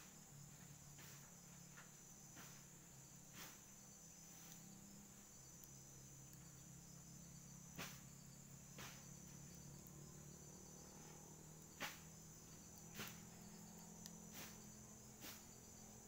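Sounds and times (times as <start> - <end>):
wood fire crackles: 0.5 - 16.0.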